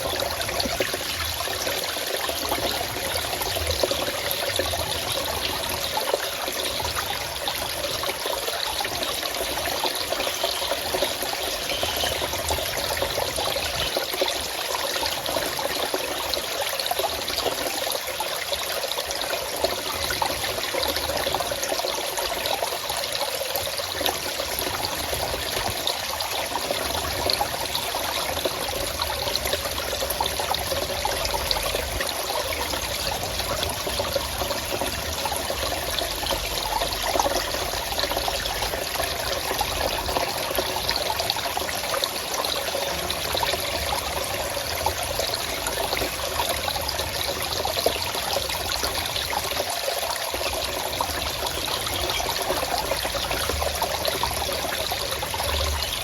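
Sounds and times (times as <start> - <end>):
stream water splashing over rocks: 0.0 - 56.0.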